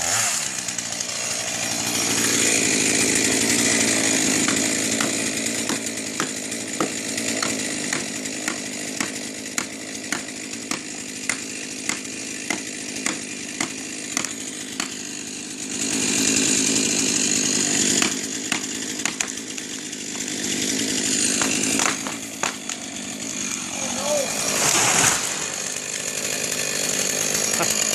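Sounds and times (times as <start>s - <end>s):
chainsaw running: 0.0s - 27.9s.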